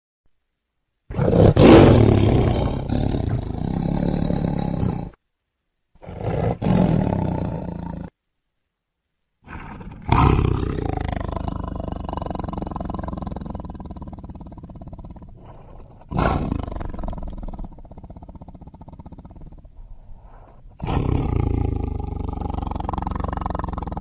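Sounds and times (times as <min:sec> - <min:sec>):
tiger growling: 0:01.1 - 0:05.2, 0:06.0 - 0:08.1, 0:09.4 - 0:24.0.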